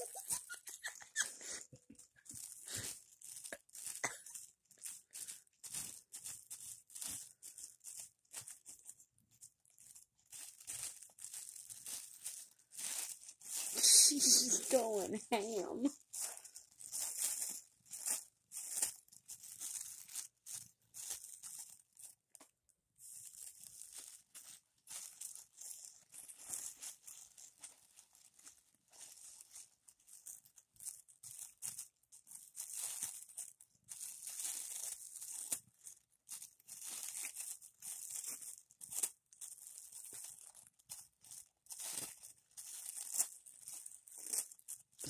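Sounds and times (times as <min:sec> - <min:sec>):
plastic bag crinkling: 0:00.0 - 0:45.0.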